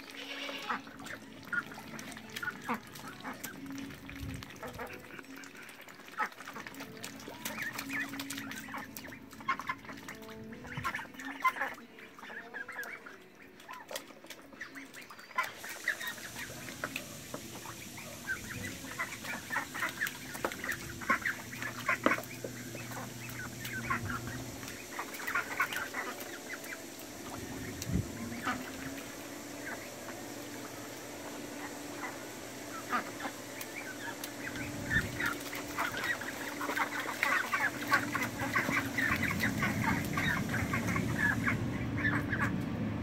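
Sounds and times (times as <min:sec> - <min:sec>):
ducks quacking: 0:00.0 - 0:42.6
duck bills dabbling in mud: 0:00.4 - 0:42.5.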